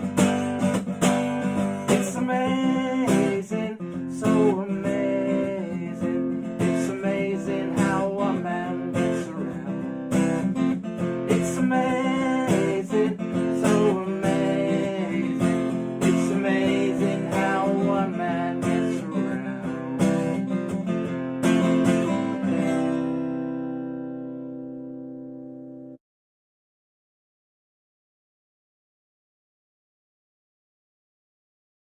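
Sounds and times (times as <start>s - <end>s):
acoustic guitar strumming and picking: 0.0s - 26.0s.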